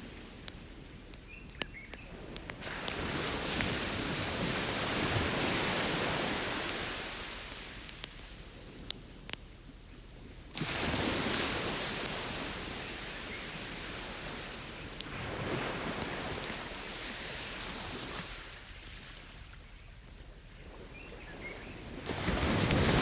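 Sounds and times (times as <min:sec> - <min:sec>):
ocean waves on a beach: 0:00.0 - 0:19.7, 0:20.6 - 0:23.0
campfire crackling: 0:00.0 - 0:20.5.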